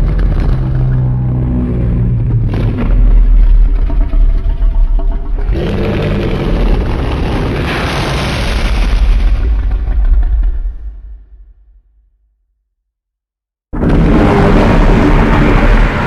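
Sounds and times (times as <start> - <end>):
deep rumble: 0.0 - 12.1, 13.7 - 16.0.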